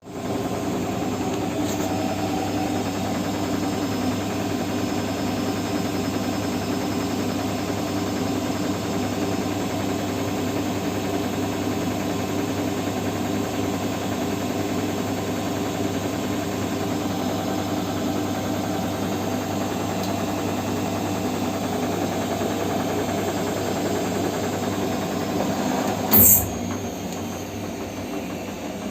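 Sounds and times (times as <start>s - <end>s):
washing machine motor hum: 0.0s - 28.9s.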